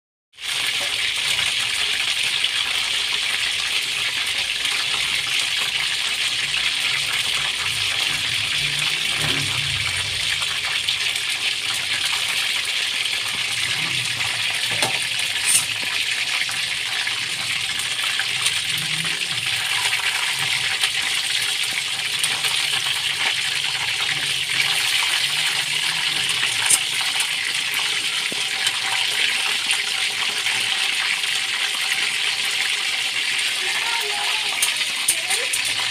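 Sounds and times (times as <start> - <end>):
chicken deep-frying in oil: 0.3 - 35.9.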